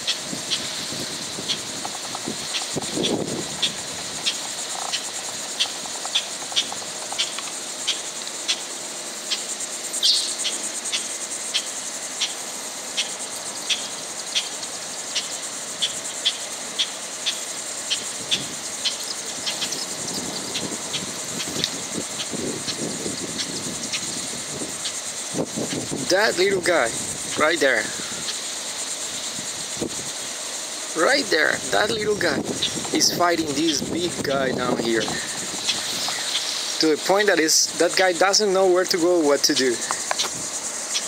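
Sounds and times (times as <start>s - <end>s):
high insect buzz: 0.0s - 41.0s.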